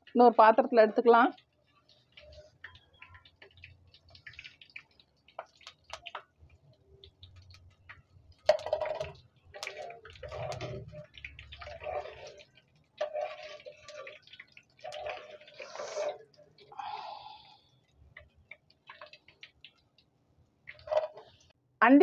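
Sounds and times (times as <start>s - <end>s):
oil crackling and popping: 0.0s - 21.6s.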